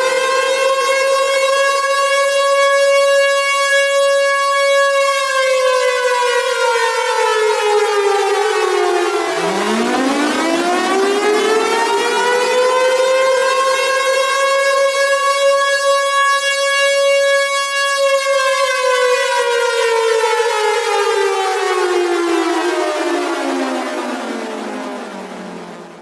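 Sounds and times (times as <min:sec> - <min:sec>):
civil defense siren wailing: 0:00.0 - 0:26.0.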